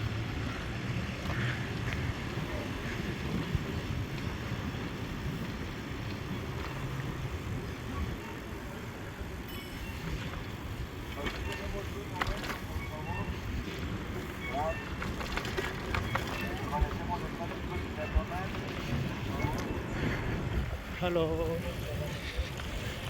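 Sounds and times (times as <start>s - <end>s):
low rumble of bicycle riding: 0.0s - 23.0s
wind rushing over microphone: 0.0s - 23.0s.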